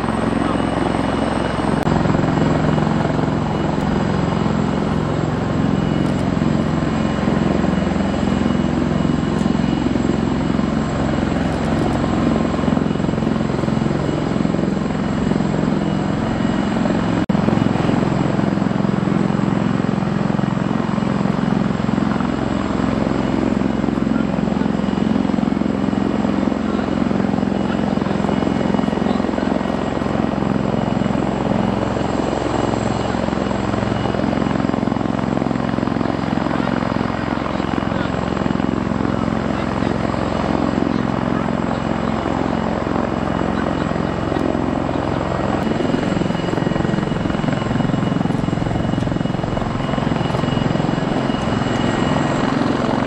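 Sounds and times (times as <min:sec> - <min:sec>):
helicopter rotor drone: 0:00.0 - 0:53.0
helicopter turbine whine: 0:00.0 - 0:53.0.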